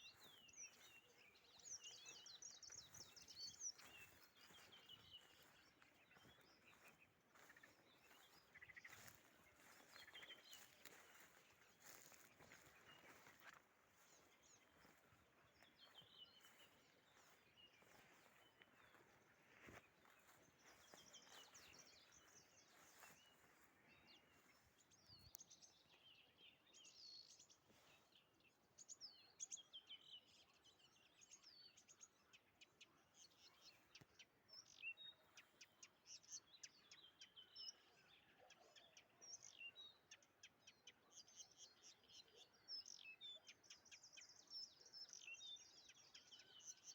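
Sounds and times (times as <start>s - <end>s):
soft outdoor background noise: 0.0s - 46.6s
songbirds chirping: 0.0s - 46.9s.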